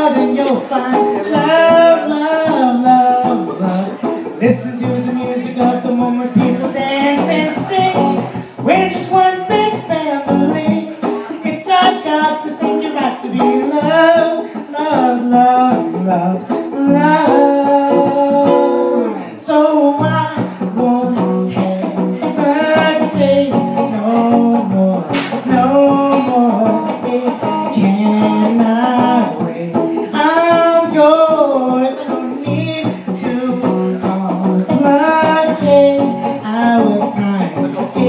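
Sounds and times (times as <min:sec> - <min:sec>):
man singing karaoke: 0:00.0 - 0:38.0
music backing track: 0:00.0 - 0:38.0.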